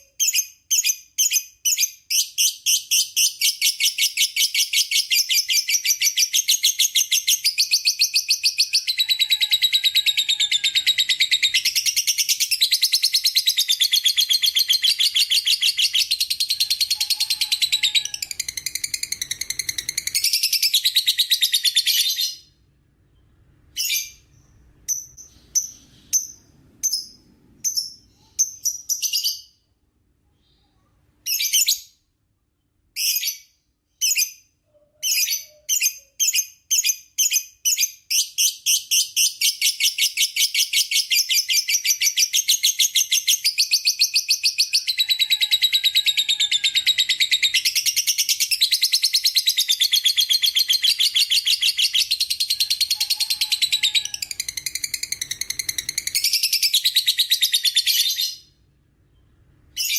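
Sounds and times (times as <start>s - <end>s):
lovebird chirping trill: 0.0s - 29.6s, 33.0s - 59.9s.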